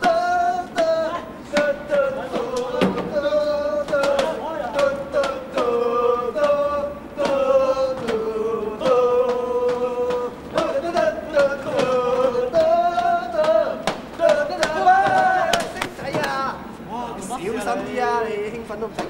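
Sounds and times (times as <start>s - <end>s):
men singing together: 0.0s - 18.6s.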